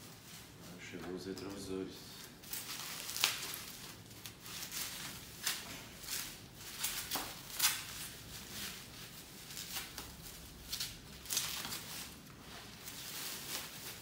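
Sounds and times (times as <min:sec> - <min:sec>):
plastic bag and bubble wrap crinkling: 0:00.0 - 0:14.0.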